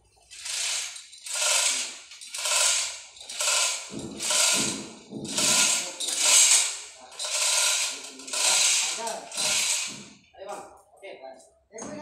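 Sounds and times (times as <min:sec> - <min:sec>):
hoist chain rattling: 0:00.3 - 0:10.1.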